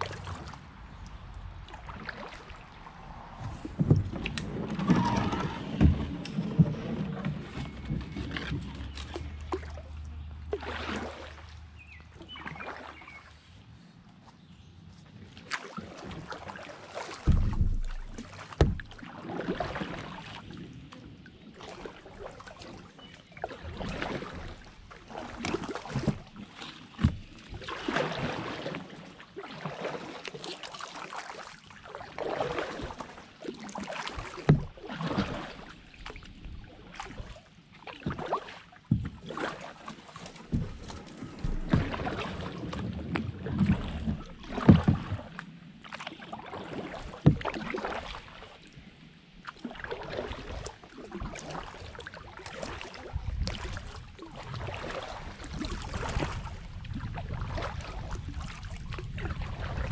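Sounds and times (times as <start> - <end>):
paddle splashing and dripping: 0.0 - 59.9.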